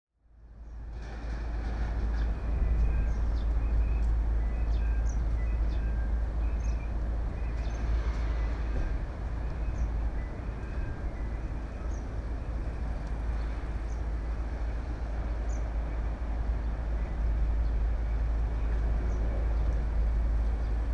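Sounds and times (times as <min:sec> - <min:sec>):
deep outdoor rumble: 0:00.2 - 0:20.9.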